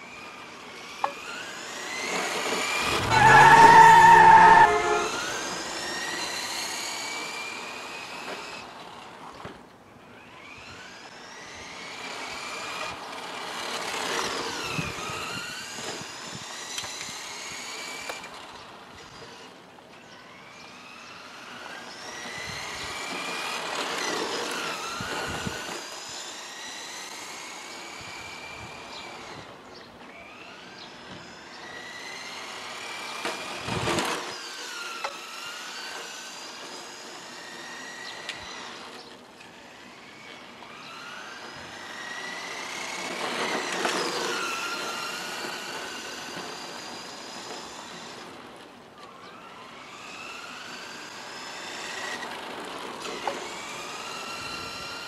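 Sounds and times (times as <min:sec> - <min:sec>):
electric toy car motor whine: 0:00.0 - 0:55.0.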